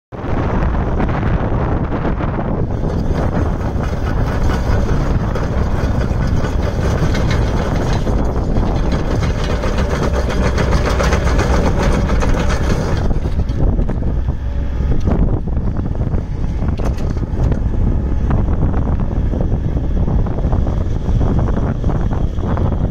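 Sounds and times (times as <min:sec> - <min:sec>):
diesel engine rumble: 0:00.1 - 0:22.9.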